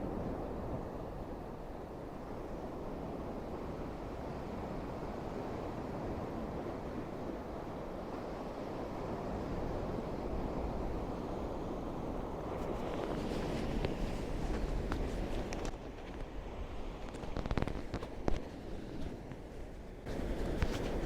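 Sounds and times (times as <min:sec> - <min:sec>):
waves washing onto shore: 0:00.0 - 0:21.0
wind rumbling on microphone: 0:00.0 - 0:21.0.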